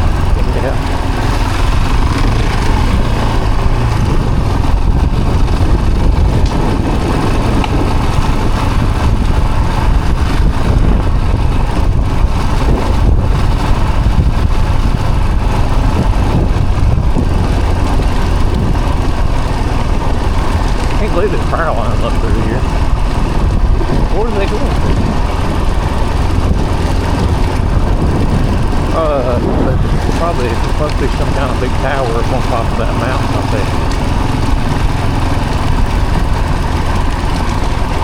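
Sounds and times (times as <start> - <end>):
road and wind noise: 0.0 - 38.0
vehicle engine running: 0.0 - 38.0.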